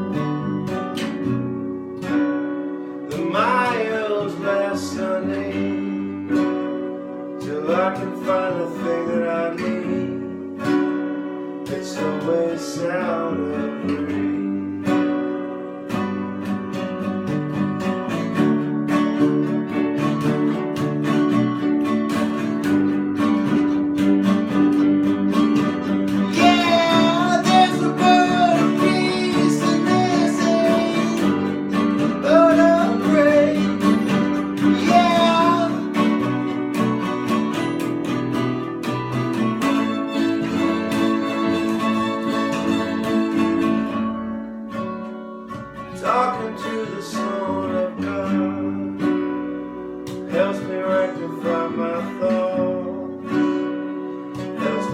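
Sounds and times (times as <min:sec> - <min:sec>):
acoustic guitar accompaniment: 0:00.0 - 0:54.9.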